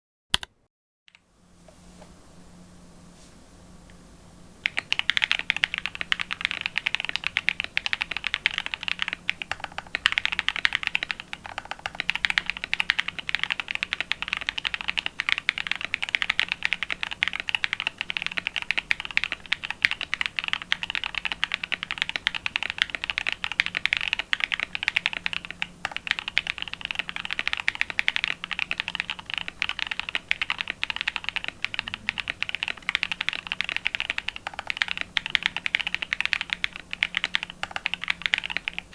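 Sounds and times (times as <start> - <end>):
mechanical keyboard typing: 4.6 - 38.9.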